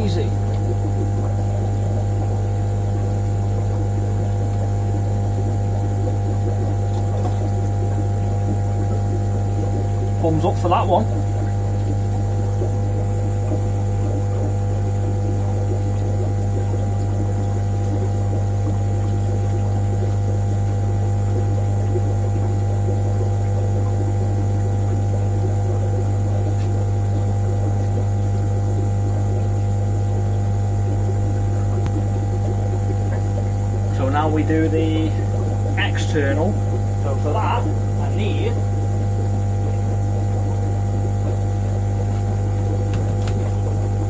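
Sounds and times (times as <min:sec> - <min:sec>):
aquarium pumps humming: 0:00.0 - 0:44.0.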